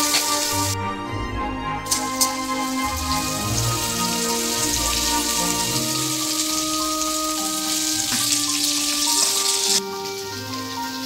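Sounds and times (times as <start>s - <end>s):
background music: 0.0s - 11.0s
spice paste sizzling in oil: 1.9s - 11.0s.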